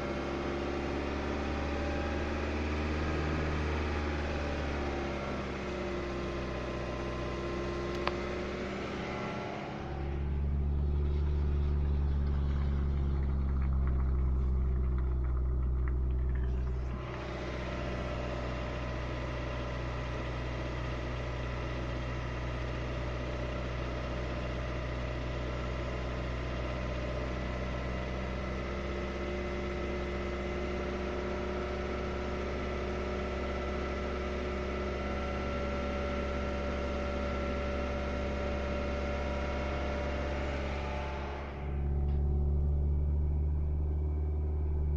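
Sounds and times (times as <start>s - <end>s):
car engine idling: 2.5s - 44.9s.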